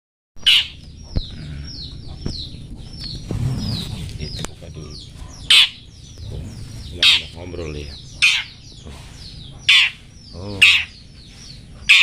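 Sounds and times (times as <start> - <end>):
low hum: 0.4 - 12.0
songbird chirping: 0.4 - 12.0.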